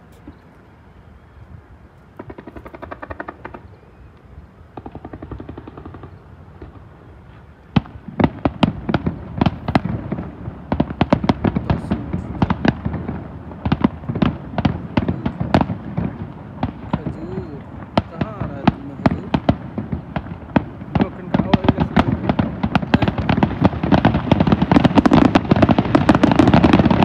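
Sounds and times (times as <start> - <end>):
fireworks booming and cracking: 2.2 - 3.7, 4.7 - 7.0, 7.7 - 27.0.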